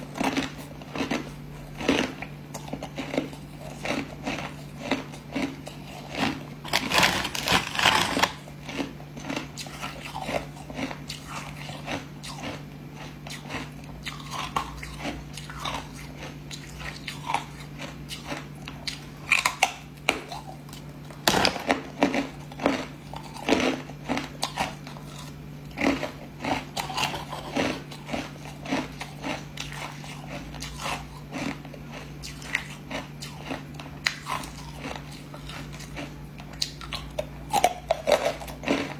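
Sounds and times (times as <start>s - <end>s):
chewing ice cubes crunching: 0.0s - 38.9s
steady low hum: 0.0s - 38.9s.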